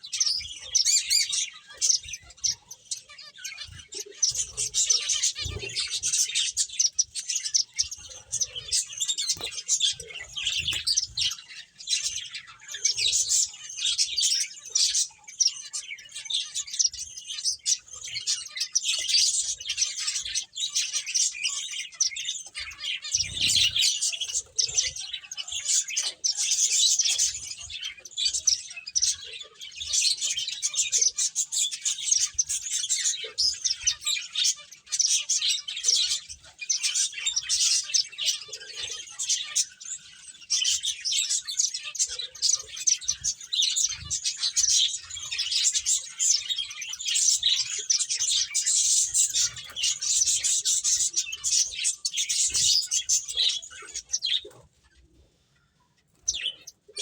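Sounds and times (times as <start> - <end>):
finches chirping: 0.0 - 57.0.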